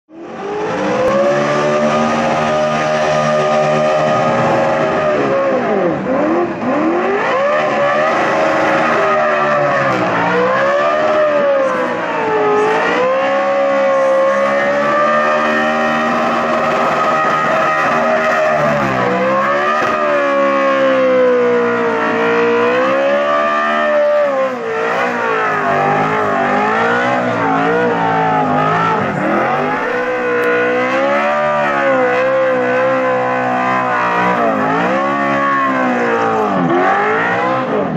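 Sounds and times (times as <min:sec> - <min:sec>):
high-revving engine: 0:00.1 - 0:37.9.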